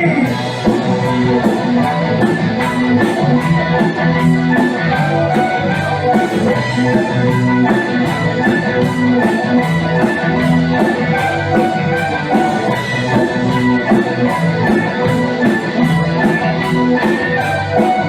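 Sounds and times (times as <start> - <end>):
sustained instrumental notes: 0.0 - 18.0.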